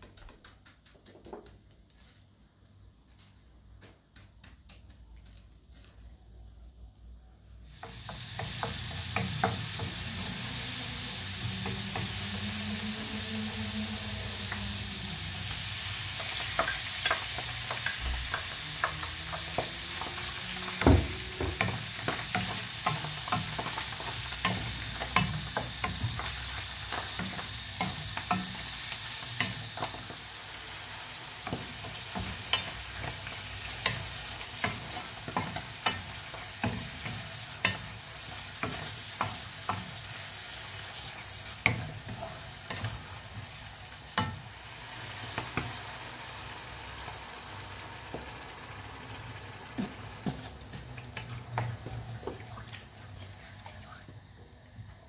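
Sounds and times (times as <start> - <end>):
mushrooms sizzling in frying pan: 7.6 - 53.5.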